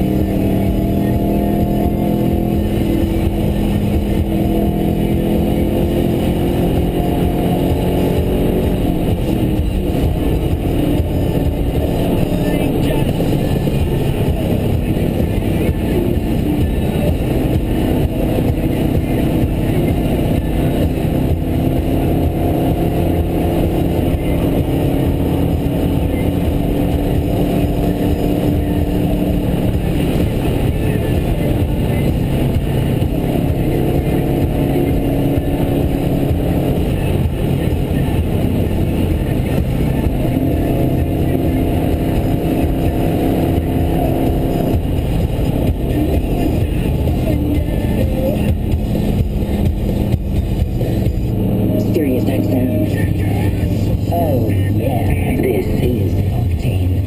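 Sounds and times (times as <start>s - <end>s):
car engine in cabin: 0.0s - 57.0s
tyre road noise: 0.0s - 57.0s.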